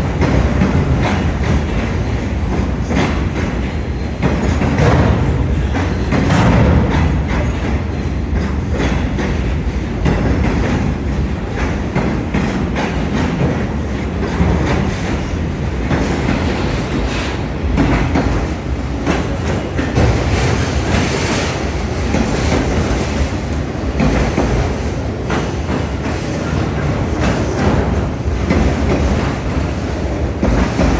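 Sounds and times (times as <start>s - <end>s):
train rumble: 0.0s - 30.9s
train wheels clattering on rail joints: 0.0s - 30.9s.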